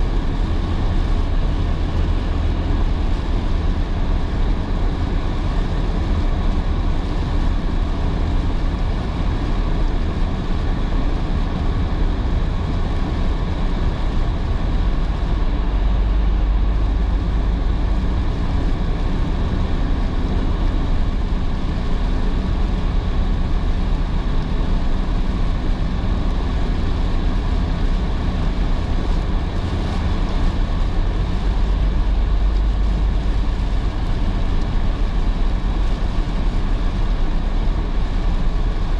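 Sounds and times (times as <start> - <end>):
road rumble in car cabin: 0.0 - 38.9.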